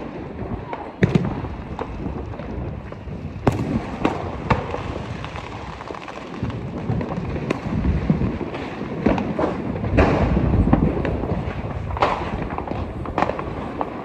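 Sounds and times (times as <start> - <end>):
fireworks bangs: 0.0 - 14.0
fireworks rumble and crackle: 0.0 - 14.0.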